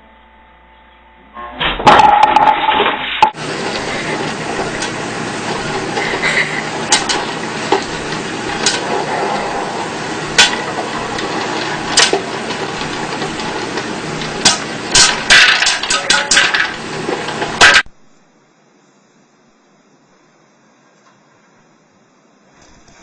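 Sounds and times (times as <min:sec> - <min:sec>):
steady hiss: 0:03.4 - 0:23.0.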